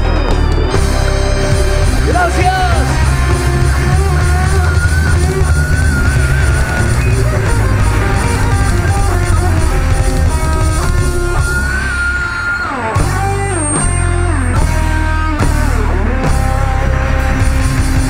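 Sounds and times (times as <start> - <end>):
live band playing cumbia: 0.0 - 16.7
sliding lead melody: 0.0 - 18.0.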